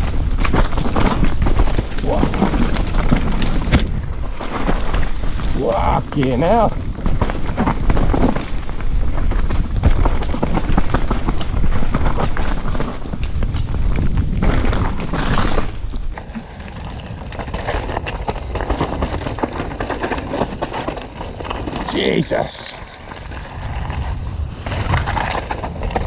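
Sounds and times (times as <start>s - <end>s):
bike rattling over bumps: 0.0s - 26.0s
bike tyres on dirt and rocks: 0.0s - 26.0s
wind buffeting microphone: 0.0s - 26.0s.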